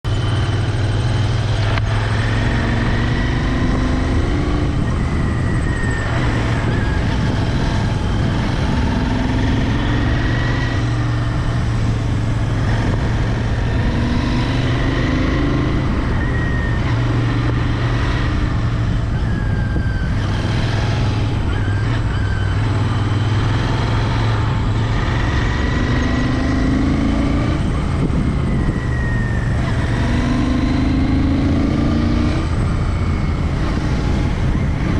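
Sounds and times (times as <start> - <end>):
motorcycle engine running: 0.0 - 34.9
road noise: 0.0 - 34.9
wind noise: 0.1 - 34.9.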